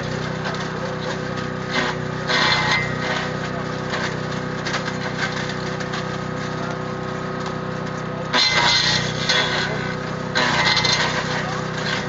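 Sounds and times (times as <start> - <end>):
branch shredder humming: 0.0 - 12.0.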